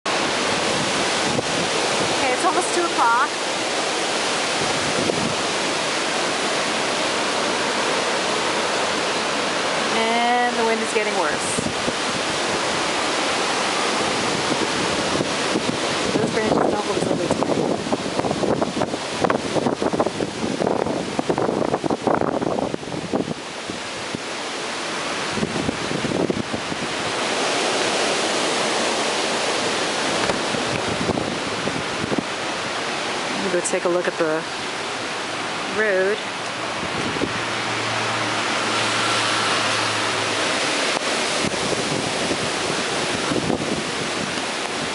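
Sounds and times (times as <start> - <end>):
heavy rain: 0.0 - 44.9
wind: 0.0 - 44.9.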